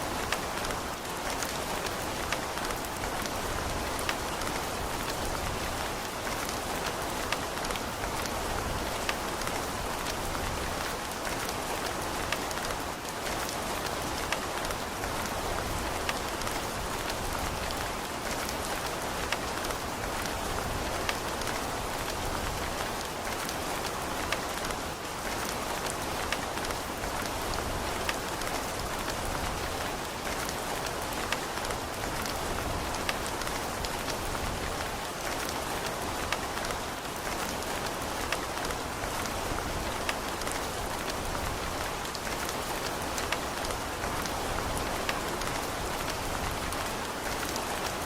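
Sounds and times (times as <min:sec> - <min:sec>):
raindrops ticking on surfaces: 0:00.0 - 0:48.0
steady rain falling: 0:00.0 - 0:48.0.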